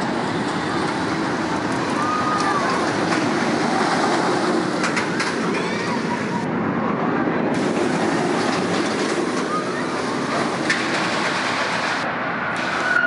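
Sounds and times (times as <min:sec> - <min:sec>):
faint voices: 0:00.0 - 0:12.0
roller coaster rumbling on track: 0:00.0 - 0:13.0.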